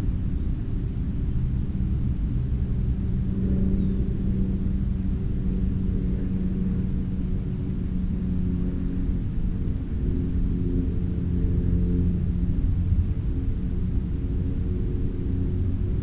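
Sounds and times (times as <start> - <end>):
low engine drone: 0.0 - 16.0
low rumble: 0.0 - 16.0.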